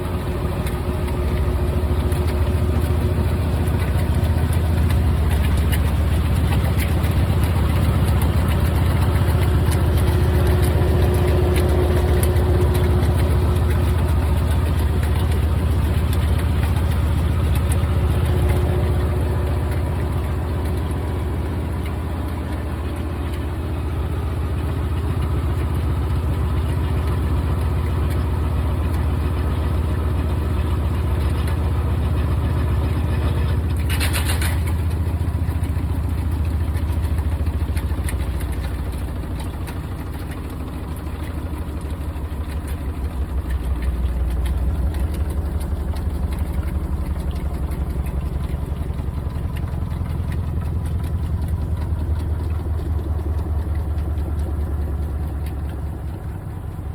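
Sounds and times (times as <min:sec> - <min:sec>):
washing machine motor hum: 0:00.0 - 0:56.9.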